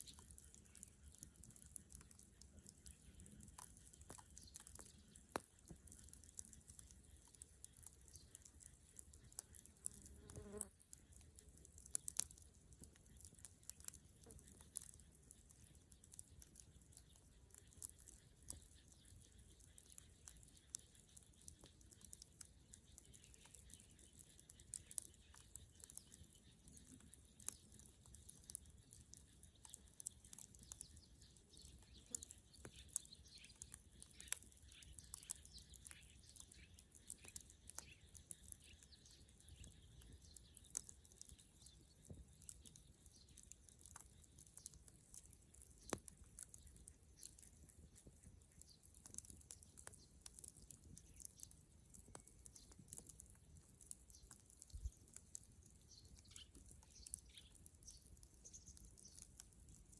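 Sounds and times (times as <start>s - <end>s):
bonfire crackling: 0.0s - 59.9s.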